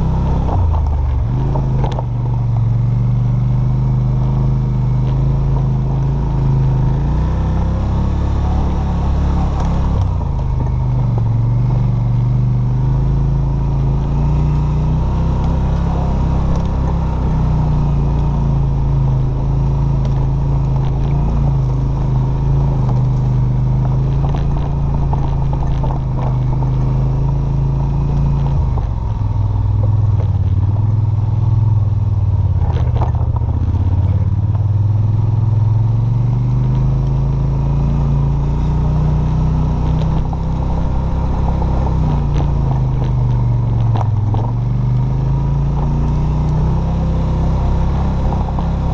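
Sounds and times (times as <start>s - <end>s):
atv engine running: 0.0s - 48.9s
clatters and scrapes on rough trail: 0.0s - 48.9s.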